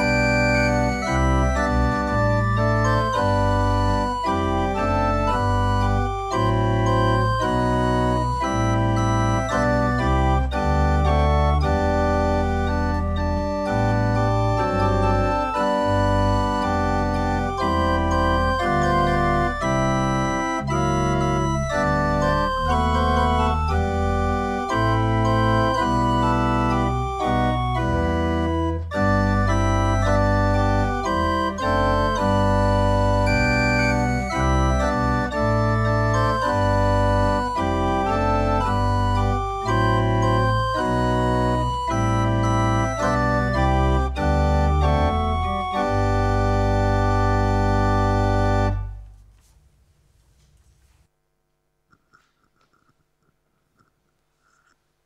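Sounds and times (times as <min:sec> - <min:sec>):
pipe organ playing chords: 0:00.0 - 0:49.1.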